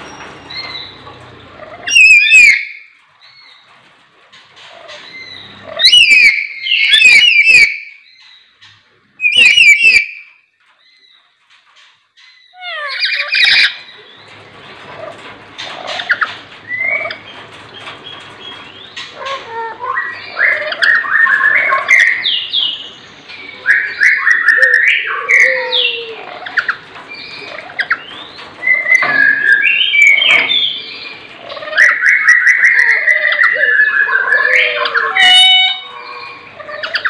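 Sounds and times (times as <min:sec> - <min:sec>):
parrots squawking and chattering: 0:00.0 - 0:03.7, 0:04.3 - 0:10.4, 0:11.7 - 0:37.0.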